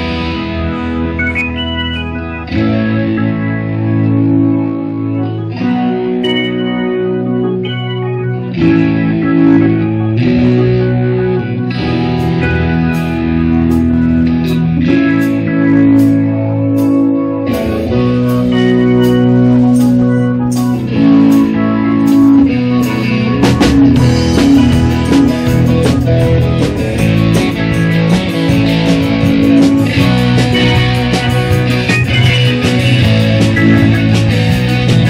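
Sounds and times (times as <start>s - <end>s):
drums: 0.0s - 35.0s
electric guitar chords: 0.0s - 35.0s
organ keyboard chords: 0.0s - 35.0s.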